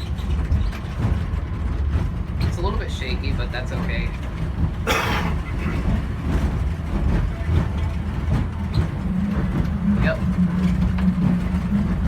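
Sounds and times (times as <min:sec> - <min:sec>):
people-mover train rumbling: 0:00.0 - 0:12.0
steady motor hum: 0:00.0 - 0:12.0.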